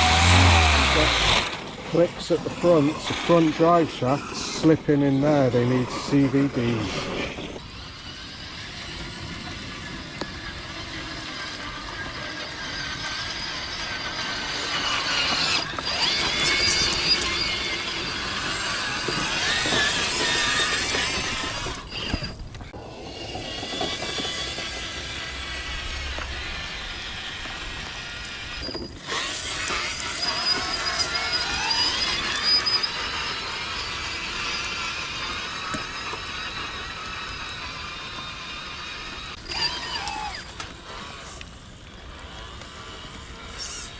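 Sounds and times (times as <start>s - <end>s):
electric toy car motor whining: 0.0s - 43.9s.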